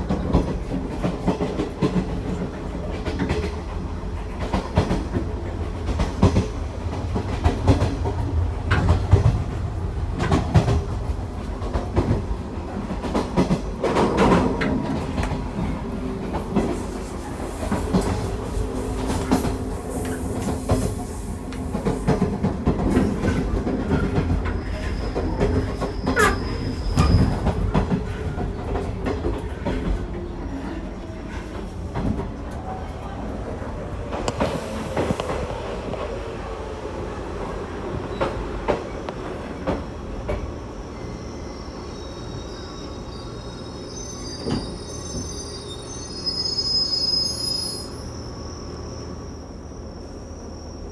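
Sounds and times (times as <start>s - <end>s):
train rumbling: 0.0s - 50.9s.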